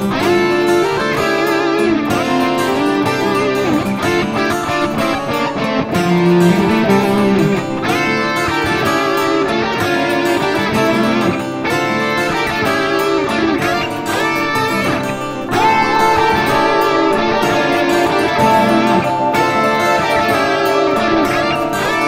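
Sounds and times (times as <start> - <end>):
electric guitar lead line: 0.0 - 22.0.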